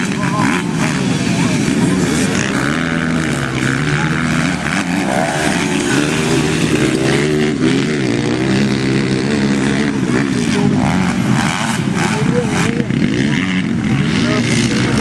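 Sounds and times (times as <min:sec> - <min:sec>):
motorbike engines revving: 0:00.0 - 0:15.0.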